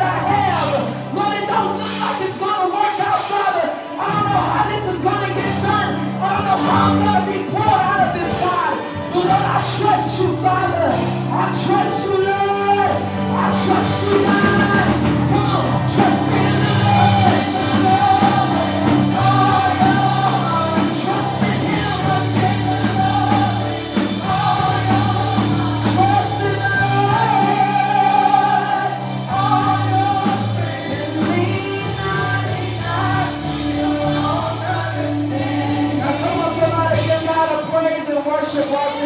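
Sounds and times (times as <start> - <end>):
people singing: 0.0 - 37.9
keyboard and bass notes: 0.0 - 39.0.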